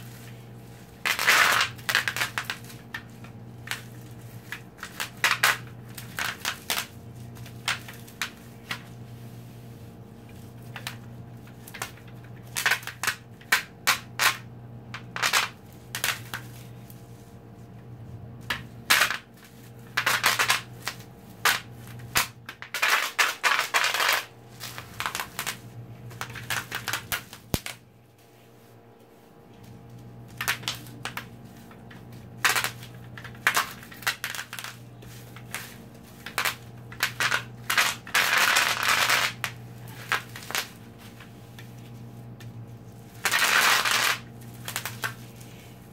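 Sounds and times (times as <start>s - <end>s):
bubble wrap popping: 0.0s - 28.0s, 29.0s - 45.9s.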